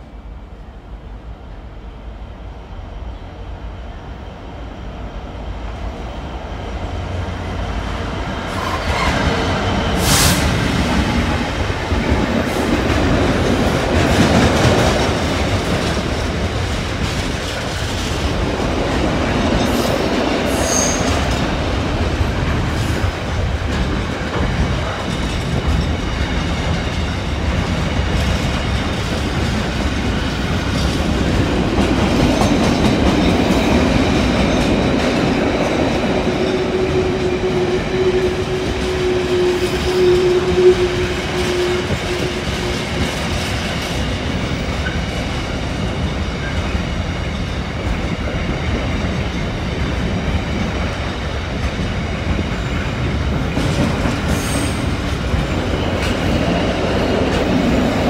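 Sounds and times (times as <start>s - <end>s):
freight train rumble and clatter: 0.0s - 58.0s.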